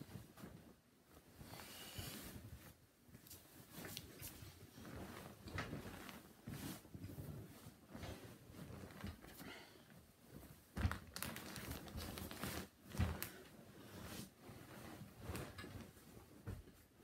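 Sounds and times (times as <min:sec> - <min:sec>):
close rustling and crinkling: 0:00.0 - 0:17.0.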